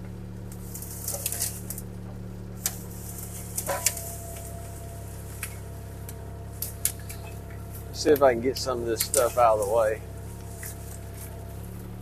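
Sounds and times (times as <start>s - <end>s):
excavator diesel engine running: 0.0s - 12.0s
branches cracking and snapping: 0.4s - 2.0s, 2.6s - 12.0s.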